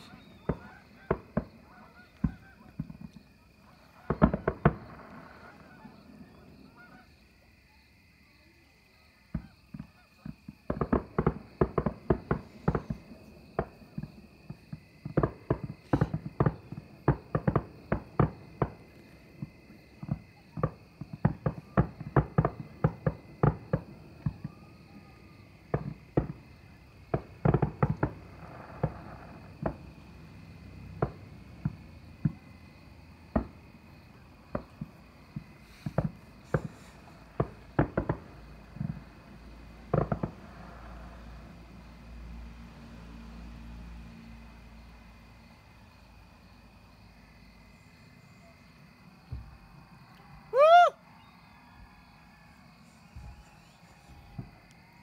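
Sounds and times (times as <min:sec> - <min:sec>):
fireworks bangs: 0:00.0 - 0:07.5, 0:09.2 - 0:43.0, 0:48.4 - 0:51.2, 0:52.8 - 0:55.0.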